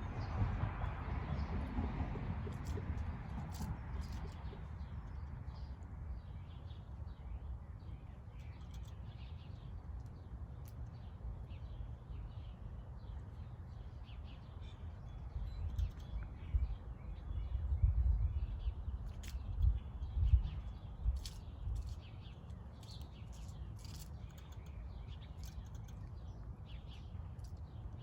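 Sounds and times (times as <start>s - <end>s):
small birds chirping: 2.4s - 28.0s.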